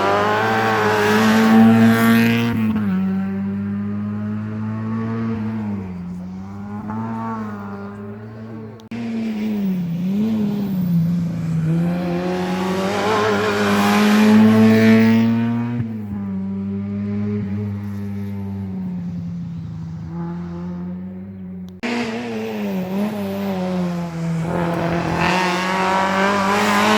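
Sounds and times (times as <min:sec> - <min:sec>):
rally car engine revving: 0:00.0 - 0:26.9.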